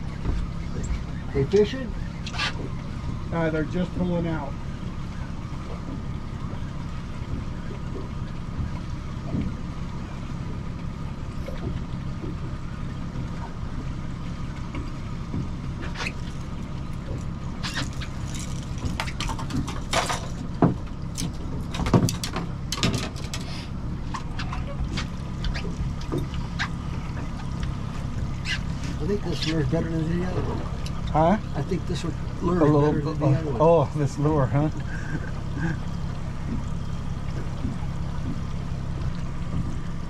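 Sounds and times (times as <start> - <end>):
outboard motor droning: 0.0 - 40.0
water splashes: 0.0 - 40.0.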